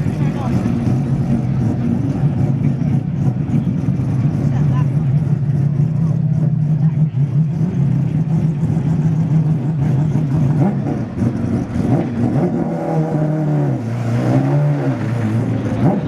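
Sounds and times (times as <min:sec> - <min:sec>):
racing car engine idling: 0:00.0 - 0:13.6.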